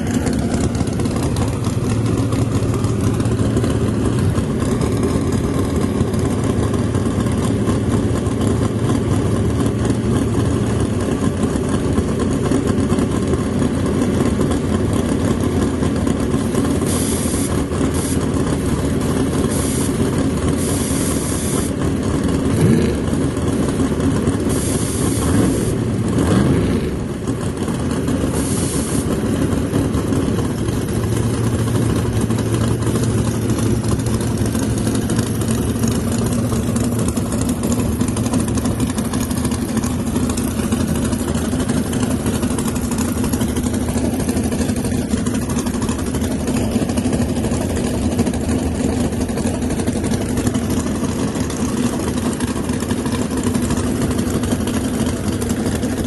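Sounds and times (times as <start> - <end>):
engine rev: 0.0 - 56.0
race car engines idling: 0.0 - 56.0.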